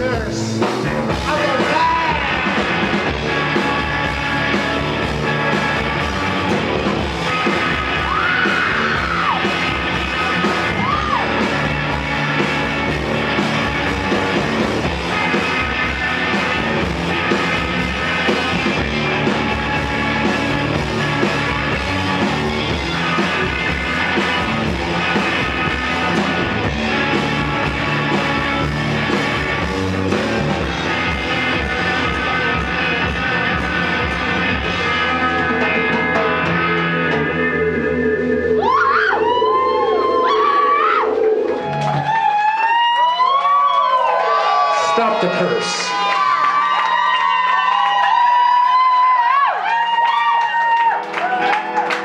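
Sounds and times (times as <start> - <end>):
rock band playing live: 0.0 - 42.8, 44.1 - 52.0.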